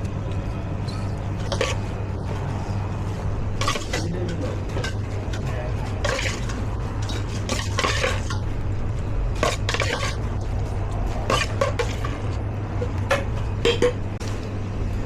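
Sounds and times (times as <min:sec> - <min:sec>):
utensils and containers clinking: 0:00.0 - 0:14.2
steady low hum: 0:00.0 - 0:15.0.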